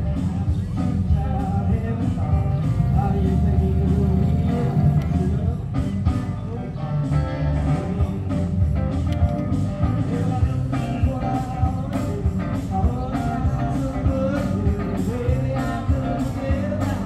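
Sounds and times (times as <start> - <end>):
person singing: 0.0 - 8.6, 9.6 - 17.0
bass guitar: 0.0 - 17.0
drums keeping a steady beat: 0.0 - 17.0
electric guitars: 0.0 - 17.0.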